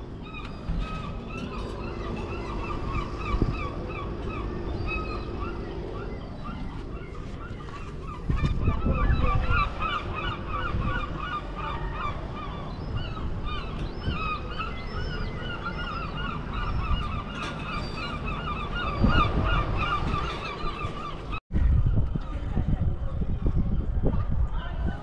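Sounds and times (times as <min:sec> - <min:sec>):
birds honking: 0:00.0 - 0:21.4.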